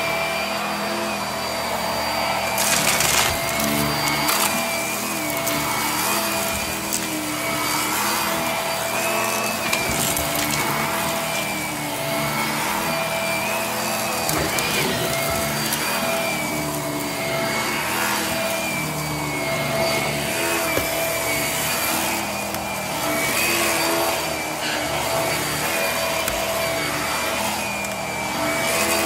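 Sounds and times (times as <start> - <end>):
vacuum cleaner on carpet: 0.0 - 29.0.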